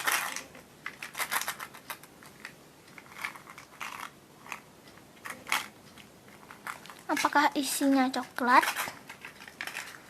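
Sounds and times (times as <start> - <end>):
plastic packaging crinkling: 0.0 - 4.6, 6.3 - 10.0.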